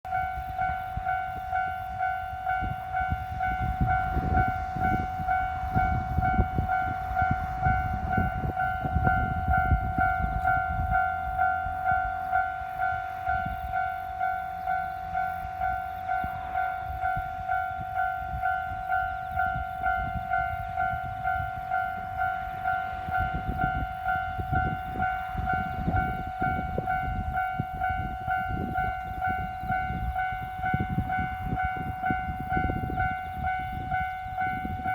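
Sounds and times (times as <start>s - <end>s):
train rumbling and clattering: 0.0s - 34.9s.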